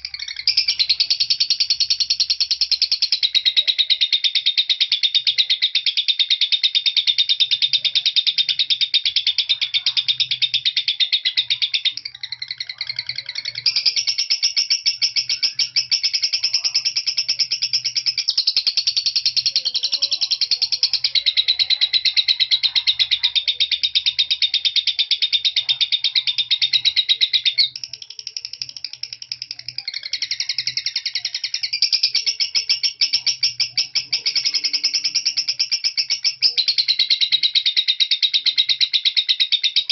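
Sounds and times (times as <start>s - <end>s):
lovebird chattering trills: 0.0s - 39.9s.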